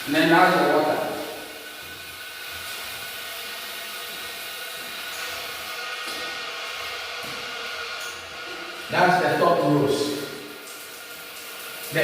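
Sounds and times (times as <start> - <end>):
water spraying from shower head: 0.0 - 12.0.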